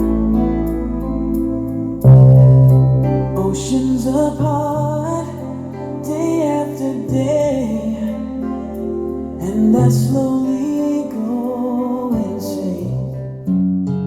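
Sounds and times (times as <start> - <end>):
music through speakers: 0.0 - 12.8.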